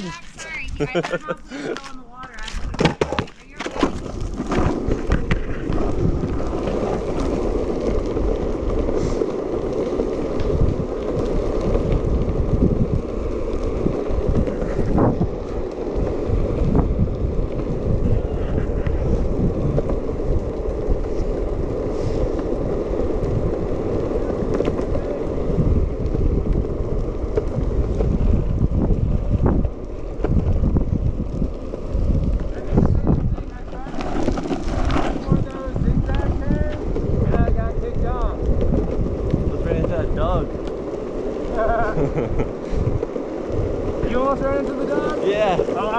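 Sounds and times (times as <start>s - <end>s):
longboard wheels rolling on asphalt: 0.0s - 45.9s
wind buffeting the microphone: 0.0s - 45.9s.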